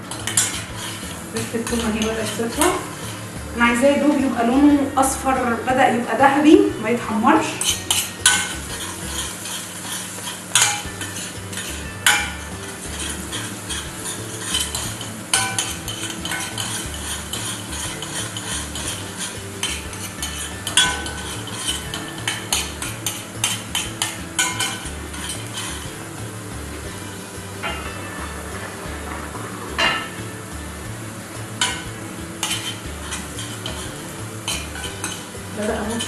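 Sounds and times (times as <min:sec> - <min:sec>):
spoon clinking and scraping pan: 0:00.0 - 0:05.4, 0:07.4 - 0:30.8, 0:31.4 - 0:36.0
garlic sizzling in oil: 0:00.0 - 0:36.0.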